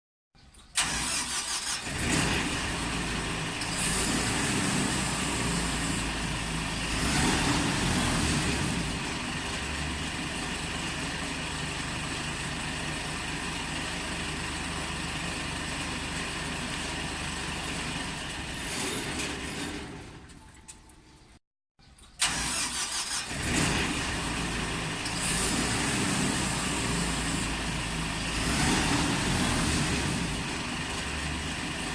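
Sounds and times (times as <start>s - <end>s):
harvester engine and machinery running: 0.4s - 31.9s.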